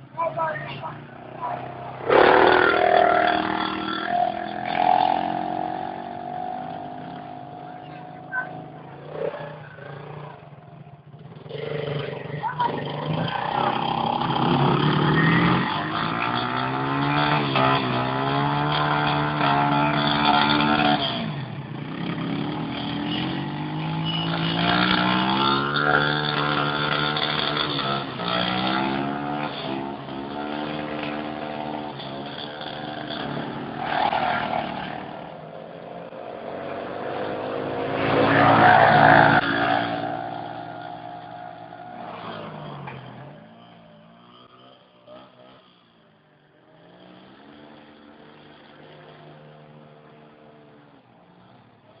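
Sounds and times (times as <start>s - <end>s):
atv engines revving: 0.0s - 52.0s.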